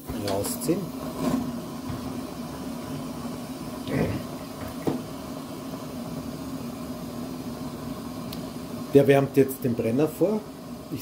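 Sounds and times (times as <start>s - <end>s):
stove burner hissing and humming: 0.0s - 11.0s.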